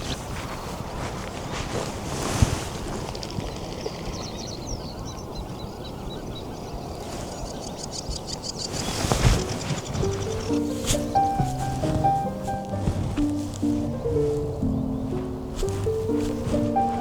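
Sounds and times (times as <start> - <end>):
wind rumble on microphone: 0.0 - 17.0
wetland birds calling: 3.1 - 17.0.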